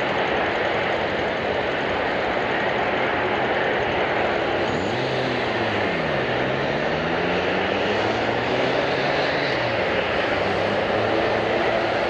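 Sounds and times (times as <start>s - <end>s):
airliner engines roaring: 0.0s - 12.0s.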